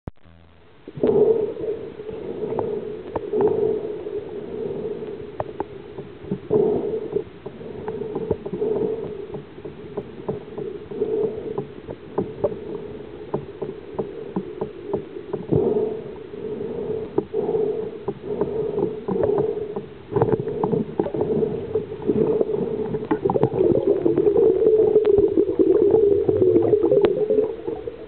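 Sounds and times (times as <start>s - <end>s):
low underwater water noise: 0.1s - 28.0s.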